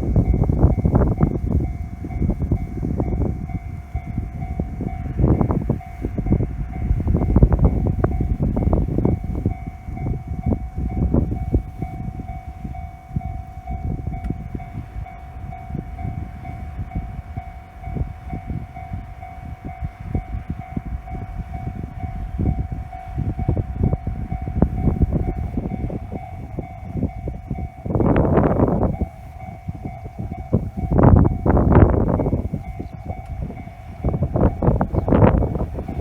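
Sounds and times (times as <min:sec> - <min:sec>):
train rumbling past: 0:00.0 - 0:36.0.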